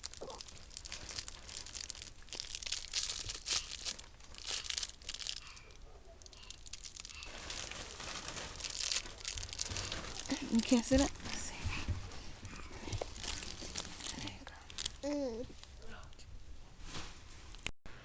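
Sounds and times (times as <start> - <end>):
rustling and crinkling: 0.0 - 17.7.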